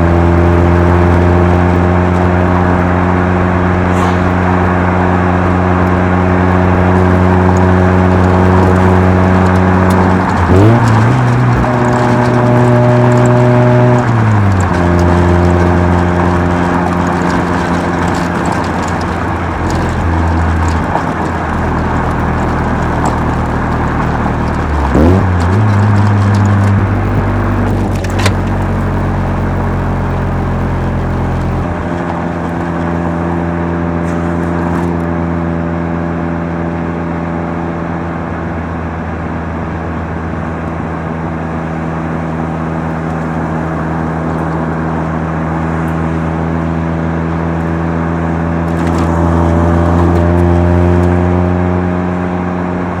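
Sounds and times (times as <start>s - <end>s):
rotary car engine driving: 0.0s - 53.0s.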